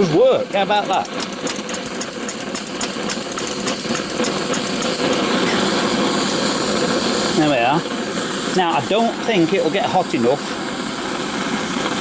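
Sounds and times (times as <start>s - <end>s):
blowlamp burning with rushing hiss: 0.0s - 12.0s.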